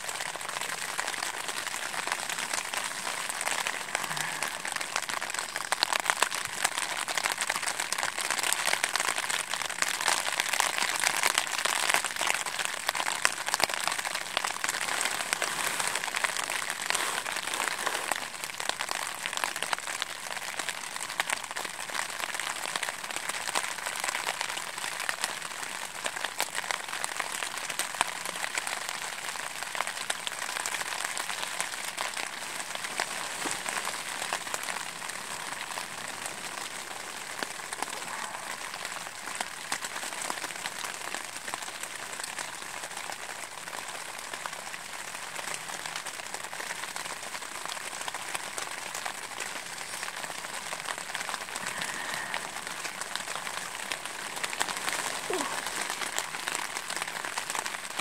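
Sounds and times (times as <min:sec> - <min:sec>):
rain pattering on tent fabric: 0:00.0 - 0:58.0.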